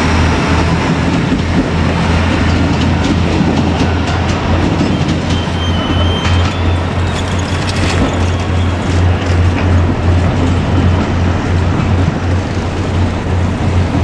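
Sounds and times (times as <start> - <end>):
diesel railcar engine drone: 0.0 - 14.0
train rumble: 0.0 - 14.0.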